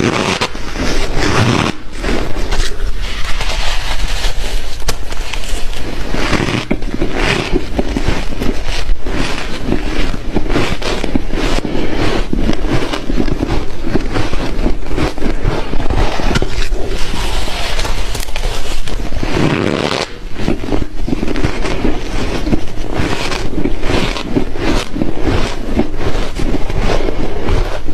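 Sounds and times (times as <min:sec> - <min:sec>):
person crunching frozen ice: 0:00.0 - 0:27.9.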